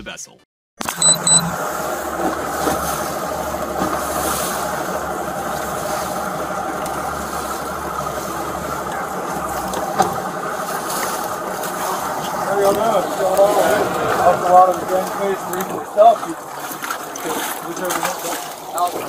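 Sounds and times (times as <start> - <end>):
boat engine idling: 1.0 - 19.0.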